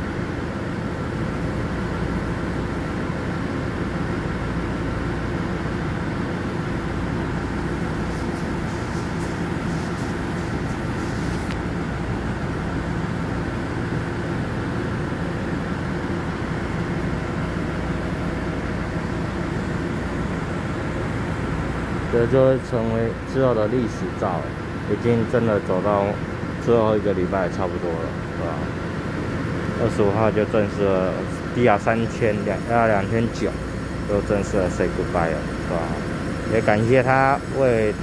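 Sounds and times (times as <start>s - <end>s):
steady hum tones: 0.0s - 38.0s
diesel trains idling: 0.2s - 38.0s.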